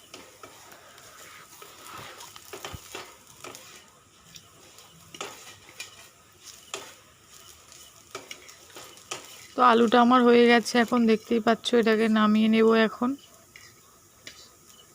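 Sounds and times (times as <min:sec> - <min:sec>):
spatula scraping pan: 0:00.0 - 0:12.1
potatoes sizzling in oil: 0:00.0 - 0:14.9.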